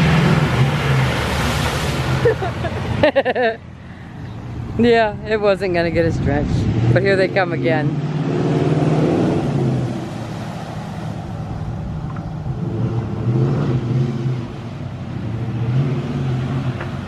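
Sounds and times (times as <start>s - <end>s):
vehicle driving through water: 0.0s - 17.0s.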